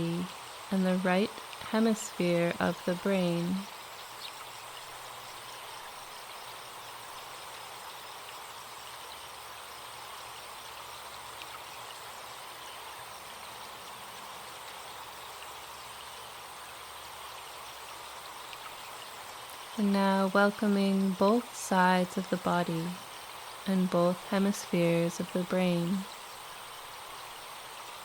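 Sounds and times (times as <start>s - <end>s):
insects buzzing: 0.0s - 28.0s
stream running water: 0.0s - 28.0s.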